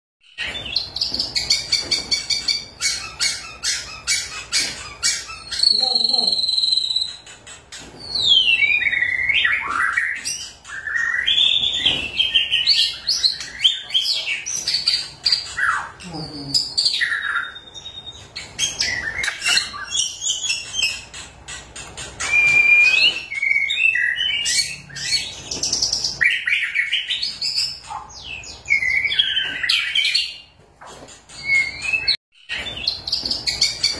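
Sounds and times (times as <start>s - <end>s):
bird singing with whistles and trills: 0.2s - 33.9s.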